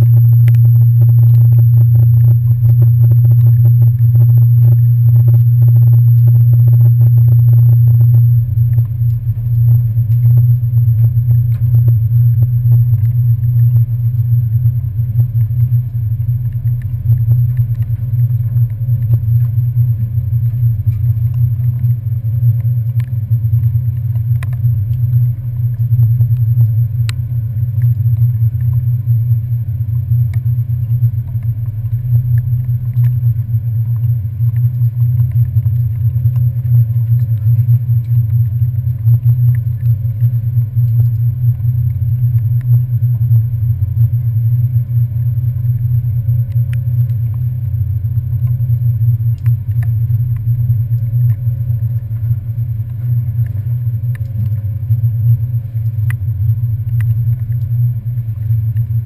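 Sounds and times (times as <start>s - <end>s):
faint ticks: 0.0s - 59.0s.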